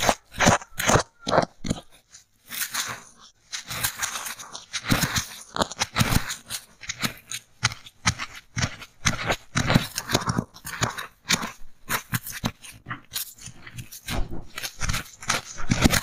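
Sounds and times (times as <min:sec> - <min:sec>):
sticks scraping in styrofoam: 0:00.0 - 0:16.0.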